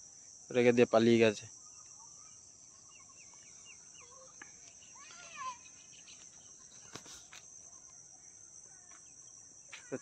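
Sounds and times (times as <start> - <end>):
crickets chirring: 0.0 - 10.0
bird chirps: 1.4 - 10.0.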